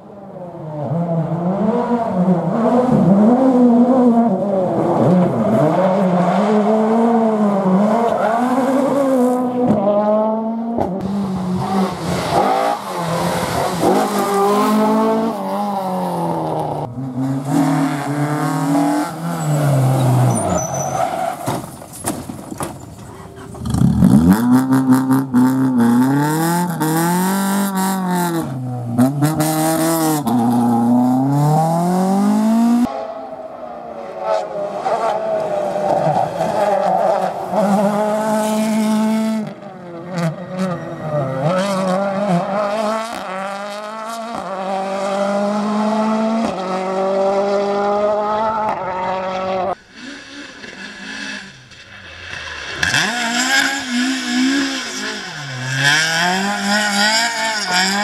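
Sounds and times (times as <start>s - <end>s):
rally car engines revving: 0.0s - 22.0s, 22.6s - 58.0s.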